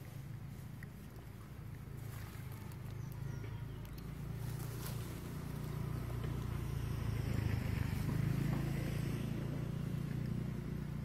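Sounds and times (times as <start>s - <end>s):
passing vehicle engine rumble: 0.0s - 11.0s.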